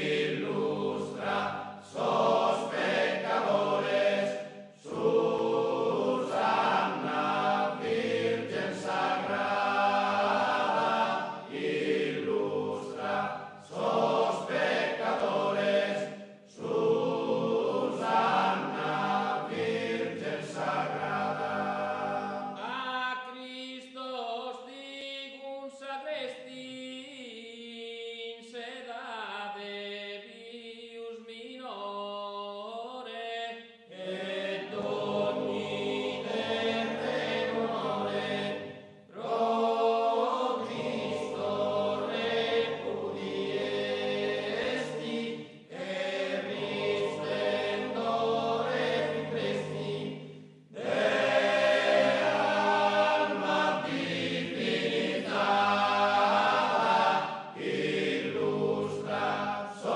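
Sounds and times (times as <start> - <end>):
choir singing slow chant: 0.0 - 22.8, 31.7 - 59.9.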